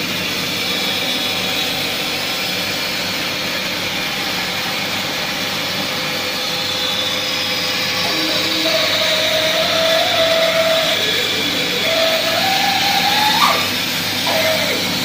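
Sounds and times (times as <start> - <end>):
band saw cutting wood: 0.3 - 15.0.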